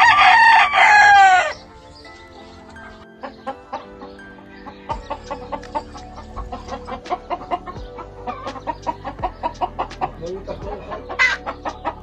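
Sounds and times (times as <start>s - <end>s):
music with steady beat: 2.0s - 12.0s
chickens clucking: 2.2s - 12.0s.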